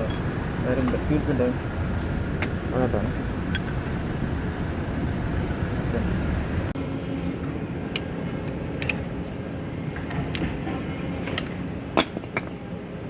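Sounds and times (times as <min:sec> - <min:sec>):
low machinery rumble: 0:00.0 - 0:13.0.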